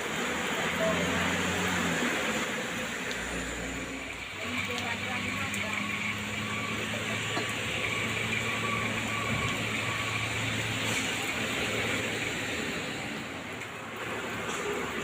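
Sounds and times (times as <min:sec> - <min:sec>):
rain hissing: 0:00.0 - 0:15.0
truck engine running: 0:00.0 - 0:15.0.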